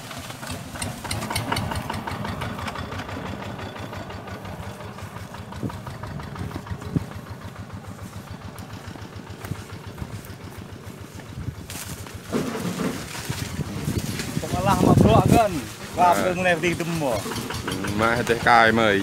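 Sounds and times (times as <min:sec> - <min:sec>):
tractor engine chugging: 0:00.0 - 0:19.0.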